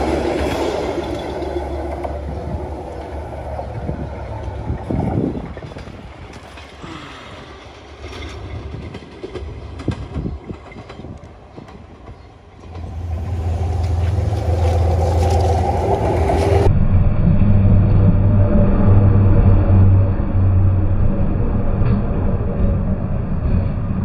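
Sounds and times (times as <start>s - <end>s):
diesel locomotive engine drone: 0.0s - 24.0s
wind noise: 0.0s - 24.0s.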